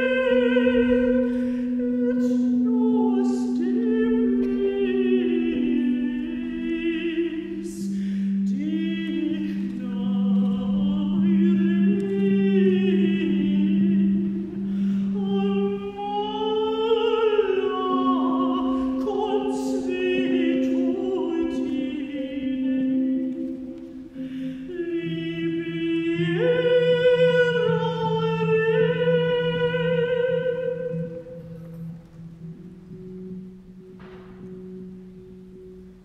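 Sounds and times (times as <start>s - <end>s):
woman singing chant melody: 0.0s - 32.0s.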